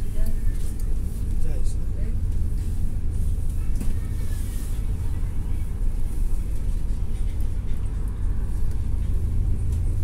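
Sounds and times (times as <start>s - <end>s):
bus engine rumble and road noise: 0.0s - 10.0s.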